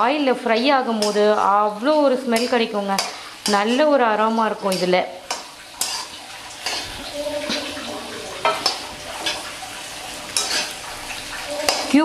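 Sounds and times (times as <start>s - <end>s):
vegetables sizzling in oil: 0.0s - 12.0s
spatula scraping a pan: 0.5s - 12.0s.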